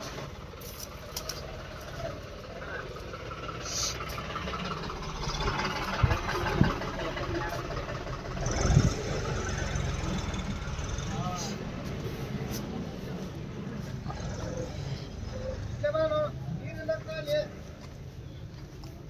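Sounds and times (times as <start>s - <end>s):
tractor engines rumbling: 0.0s - 19.0s.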